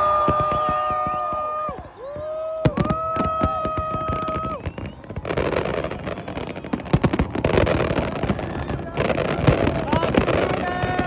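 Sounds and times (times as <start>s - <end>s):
dense fireworks crackling: 0.0s - 11.0s
fireworks banging: 0.0s - 11.0s.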